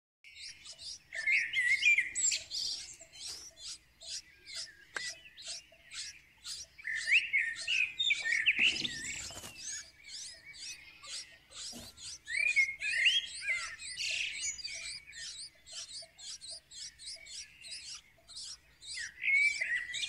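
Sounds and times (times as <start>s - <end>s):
lower chirping bouts: 0.3s - 20.0s
nestlings chirping high: 0.3s - 20.0s.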